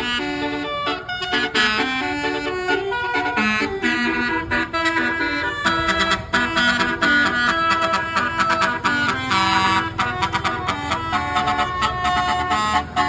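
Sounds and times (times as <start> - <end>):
musical bus horn playing tune: 0.0 - 13.0.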